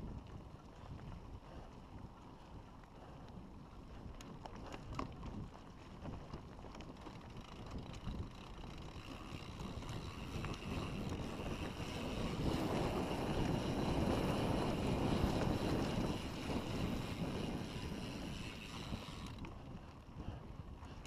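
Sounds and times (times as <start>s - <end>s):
bike tyres rolling on dirt: 0.0s - 21.0s
wind rushing over microphone: 3.4s - 21.0s.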